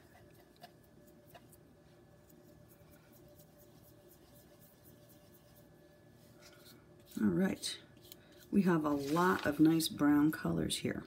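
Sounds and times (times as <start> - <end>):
paintbrush scrubbing on paint: 0.0 - 9.8.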